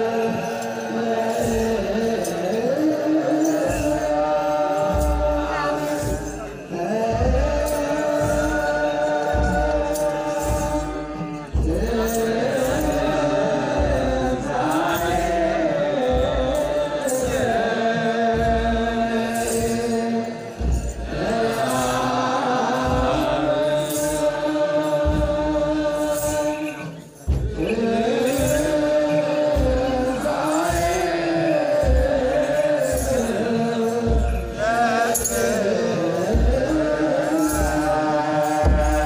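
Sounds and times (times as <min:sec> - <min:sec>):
men chanting in held notes: 0:00.0 - 0:39.0.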